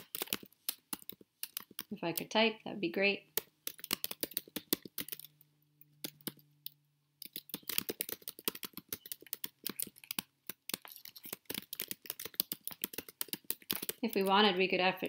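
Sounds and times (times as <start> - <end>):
computer keyboard typing: 0.0 - 2.4, 3.3 - 15.0.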